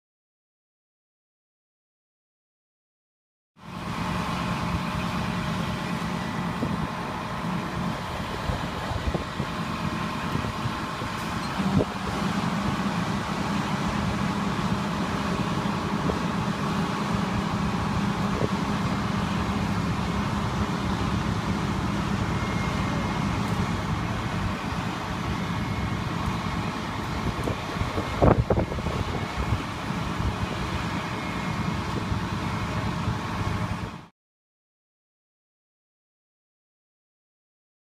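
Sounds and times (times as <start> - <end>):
motor vehicle engines droning: 3.6 - 34.1.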